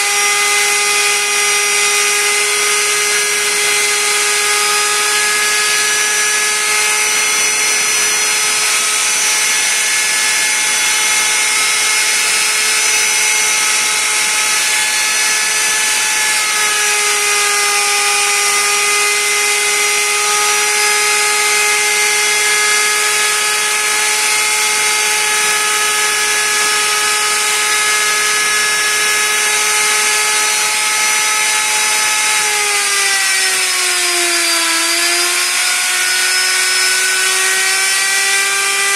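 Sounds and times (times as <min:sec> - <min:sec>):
power tool high whine: 0:00.0 - 0:38.9.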